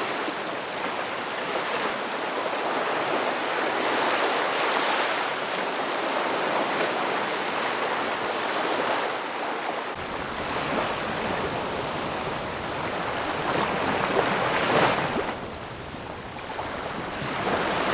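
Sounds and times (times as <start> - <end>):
sea waves washing on shore: 0.0 - 17.9.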